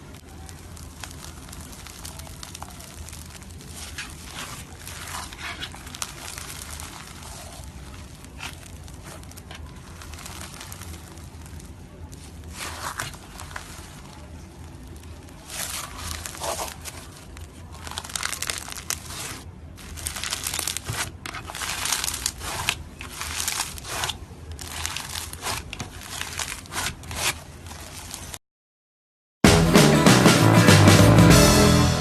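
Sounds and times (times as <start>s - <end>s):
slime squelching and crackling: 0.0s - 28.4s.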